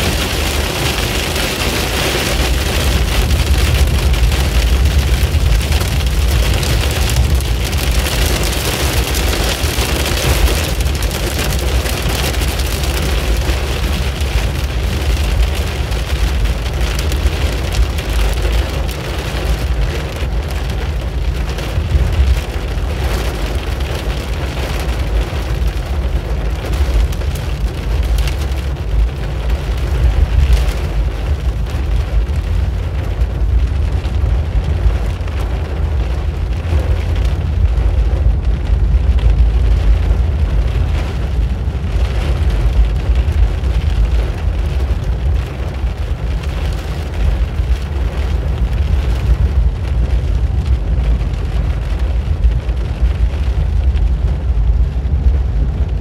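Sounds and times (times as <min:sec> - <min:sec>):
low road rumble: 0:00.0 - 0:56.0
rain pelting car windshield: 0:00.0 - 0:56.0.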